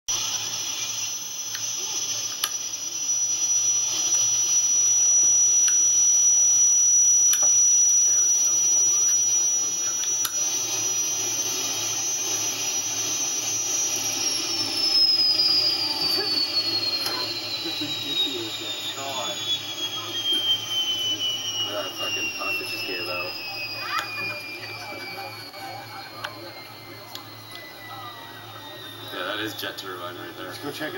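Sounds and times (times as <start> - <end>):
turbine engines whining: 0.1 - 30.9.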